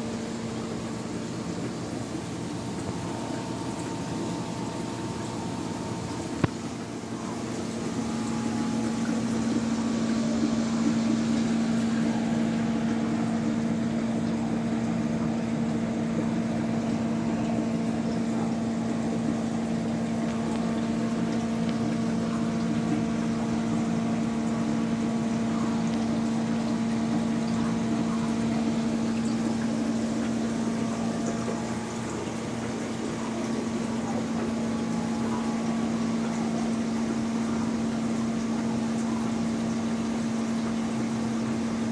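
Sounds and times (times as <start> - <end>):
water pump humming: 0.0 - 41.9.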